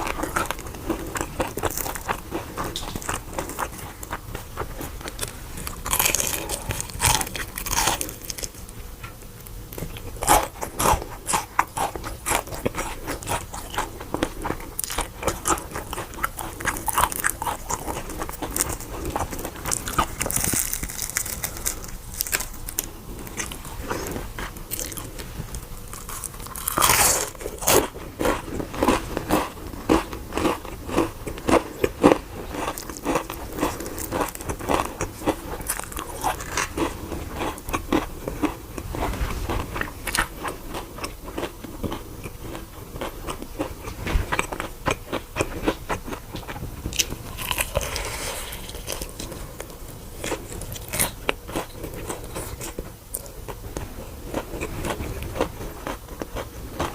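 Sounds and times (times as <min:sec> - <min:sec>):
person chewing crunchy food: 0:00.0 - 0:08.8, 0:09.4 - 0:56.9.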